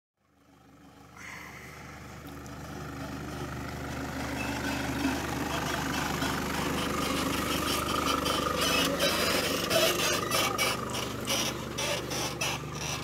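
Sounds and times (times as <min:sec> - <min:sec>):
pickup truck engine at low revs: 0:00.2 - 0:13.0.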